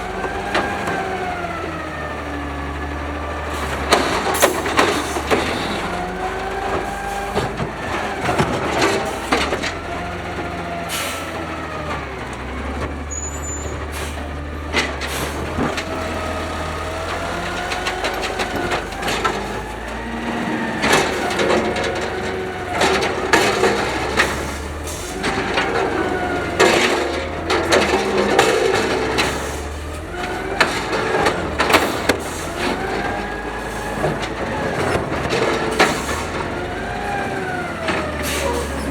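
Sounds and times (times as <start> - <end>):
carts banging and clanking: 0.0 - 38.9
truck engine droning: 0.0 - 38.9.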